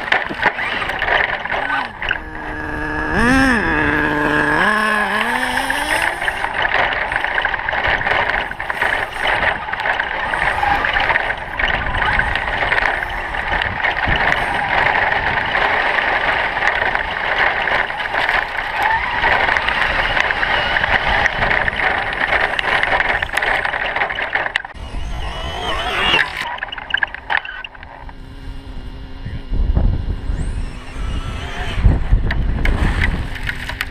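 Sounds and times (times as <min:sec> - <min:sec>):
electric motor and gear whine: 0:00.0 - 0:33.9
rolling tyre noise: 0:00.0 - 0:33.9.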